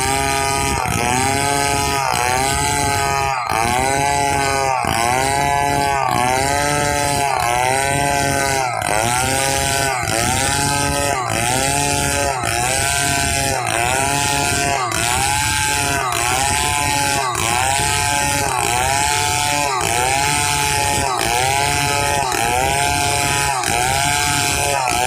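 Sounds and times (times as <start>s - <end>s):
chainsaw cutting timber: 0.0s - 25.0s.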